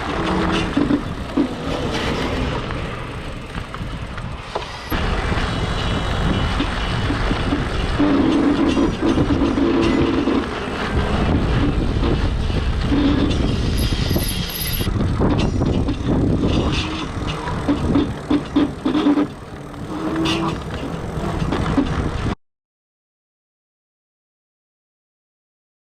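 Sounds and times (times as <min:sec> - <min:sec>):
e-bike hub motor grinding: 0:00.0 - 0:22.4
steady low rumble: 0:00.0 - 0:22.4.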